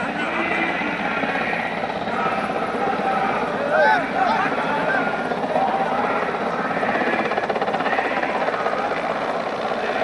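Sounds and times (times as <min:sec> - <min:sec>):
helicopter engine: 0:00.0 - 0:10.0
helicopter rotor chopping: 0:00.0 - 0:10.0.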